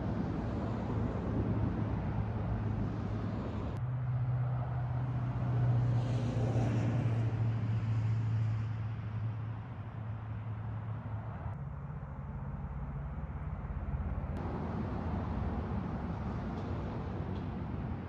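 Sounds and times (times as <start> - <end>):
road and wind noise: 0.0 - 18.0
vehicle engine hum: 0.0 - 18.0.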